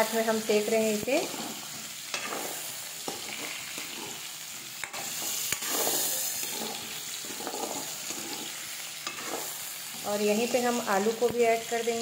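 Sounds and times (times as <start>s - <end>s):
banana slices sizzling in oil: 0.0s - 12.0s
metal spoon scraping wok: 1.0s - 11.1s.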